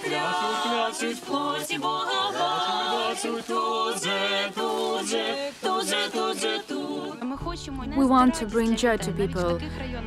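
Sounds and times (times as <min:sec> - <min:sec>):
carolers singing a cappella: 0:00.0 - 0:10.0.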